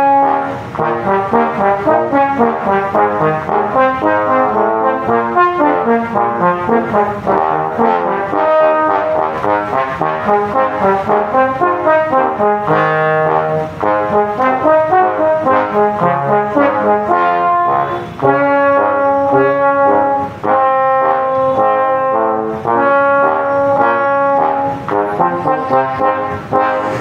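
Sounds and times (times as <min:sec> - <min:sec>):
trombones playing a march: 0:00.0 - 0:27.0.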